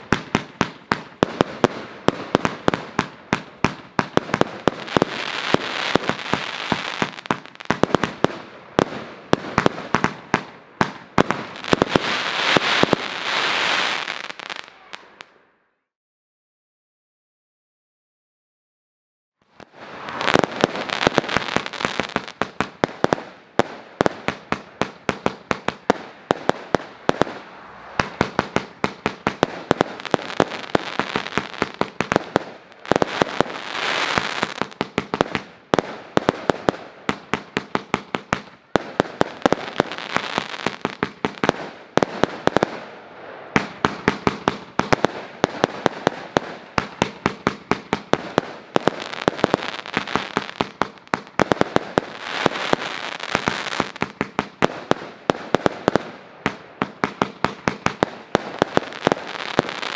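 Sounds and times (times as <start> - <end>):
hissing firework crackle: 0.0 - 15.3, 19.6 - 59.9
fireworks shots and bursts: 0.0 - 15.4, 19.6 - 59.9.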